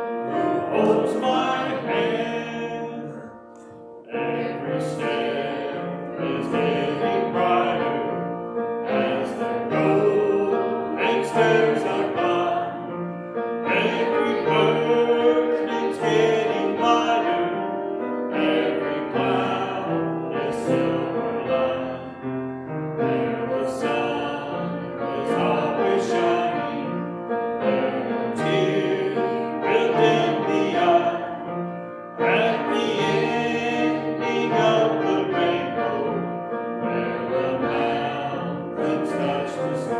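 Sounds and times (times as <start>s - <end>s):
congregation singing a hymn: 0.0s - 39.9s
piano accompaniment: 0.0s - 39.9s.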